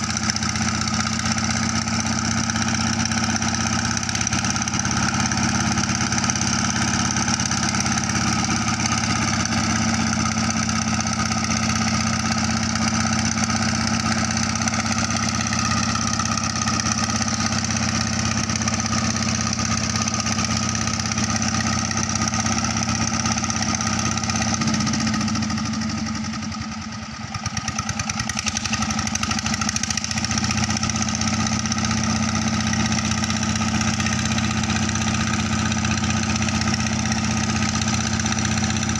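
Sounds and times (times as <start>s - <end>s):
pump engine running: 0.0s - 38.9s.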